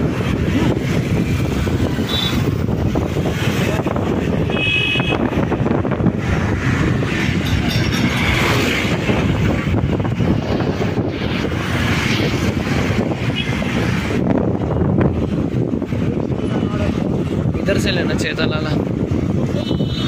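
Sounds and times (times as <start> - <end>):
road and traffic noise: 0.0 - 20.0
wind buffeting microphone: 0.0 - 20.0.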